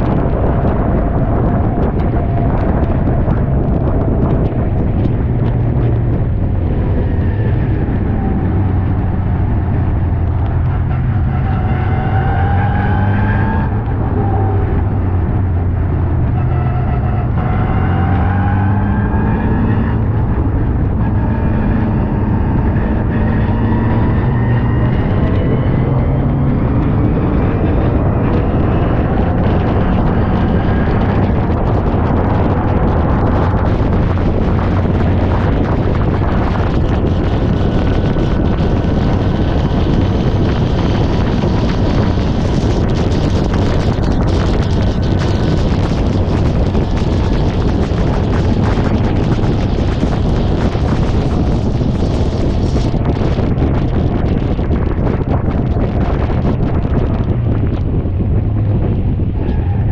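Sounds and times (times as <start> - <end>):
race car engine revving: 0.0 - 59.9
wind noise rushing: 0.0 - 59.9.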